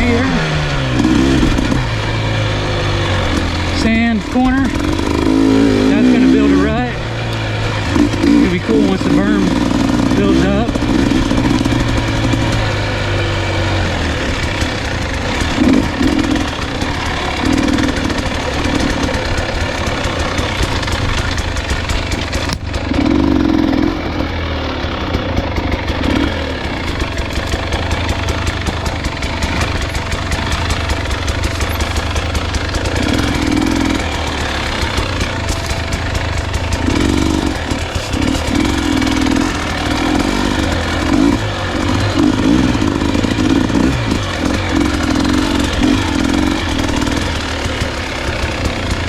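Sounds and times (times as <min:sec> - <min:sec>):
dirt bike engine: 0:00.0 - 0:49.0.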